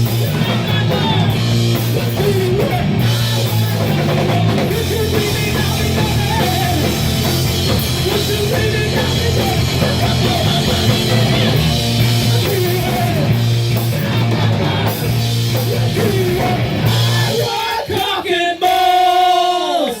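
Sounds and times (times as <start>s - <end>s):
person singing: 0.0s - 7.0s, 7.9s - 20.0s
distorted guitar: 0.0s - 18.2s
live rock band playing: 0.0s - 18.2s
drums: 0.0s - 20.0s.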